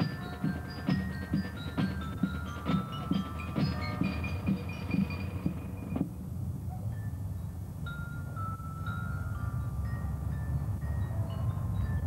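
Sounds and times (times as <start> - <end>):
glockenspiels playing slow melody: 0.0 - 6.0, 6.9 - 12.0.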